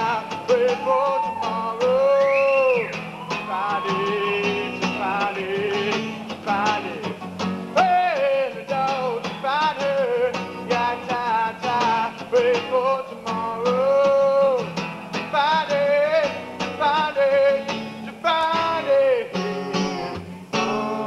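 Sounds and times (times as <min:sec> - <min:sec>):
person singing: 0:00.0 - 0:07.2, 0:07.8 - 0:21.0.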